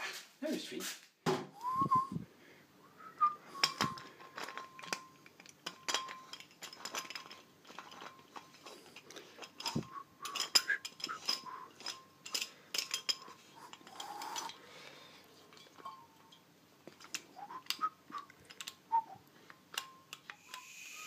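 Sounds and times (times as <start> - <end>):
brass fittings clicking and clinking: 3.4 - 20.8.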